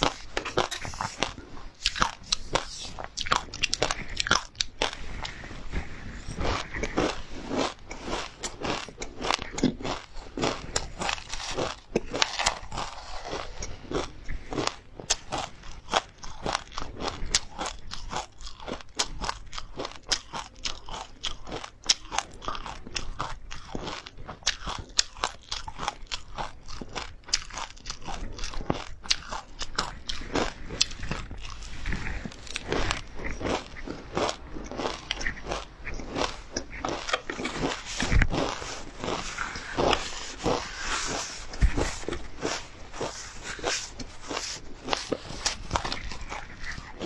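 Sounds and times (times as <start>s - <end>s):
crunching and chewing seeds: 0.0s - 47.0s.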